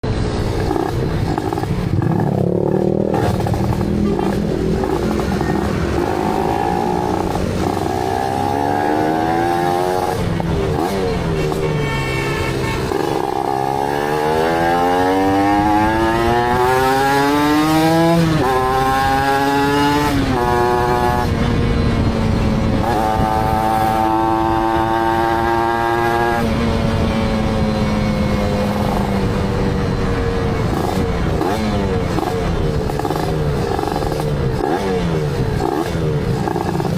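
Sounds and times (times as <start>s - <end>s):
motorcycle engine revving: 0.4s - 36.9s.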